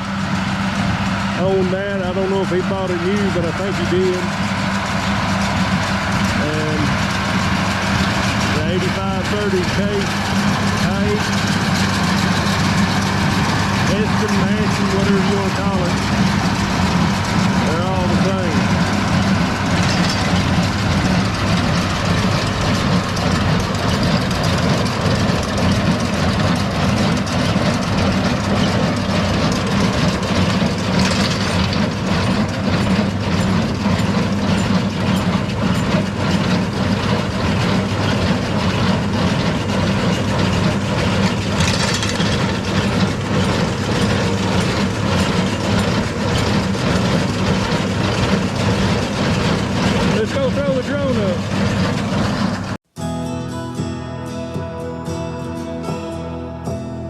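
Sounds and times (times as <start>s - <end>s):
heavy engine running: 0.0s - 57.0s
fast rhythmic clatter: 1.8s - 52.8s.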